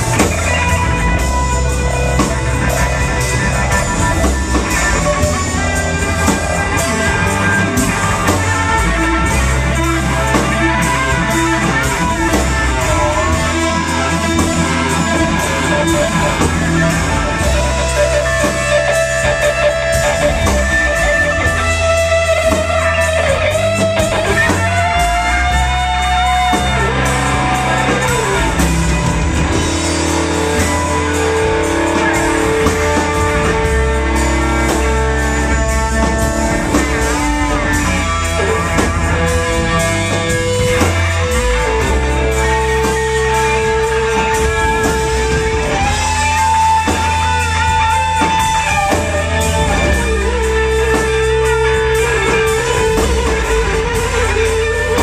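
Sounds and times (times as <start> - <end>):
bass and drums: 0.0 - 55.0
electric guitar sustained bending notes: 0.0 - 55.0.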